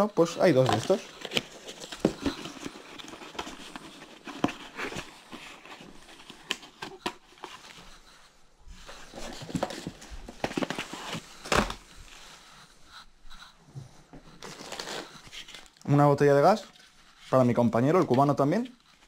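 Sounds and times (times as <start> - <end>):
packaging rustle: 0.2 - 8.0, 8.8 - 12.5, 14.3 - 19.0.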